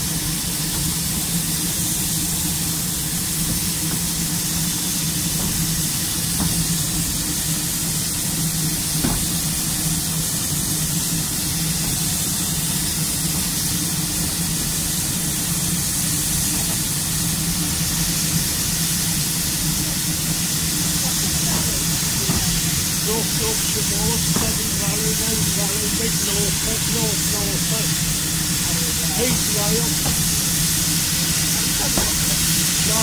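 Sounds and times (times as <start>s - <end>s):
steam locomotive hiss and rumble: 0.0s - 33.0s.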